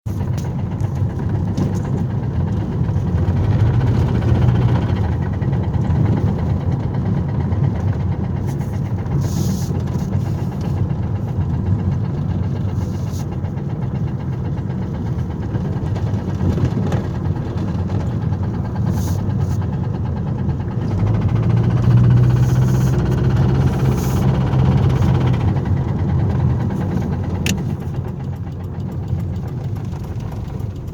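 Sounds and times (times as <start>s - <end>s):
car engine running: 0.1s - 30.9s
rapid engine knocking: 0.1s - 30.9s.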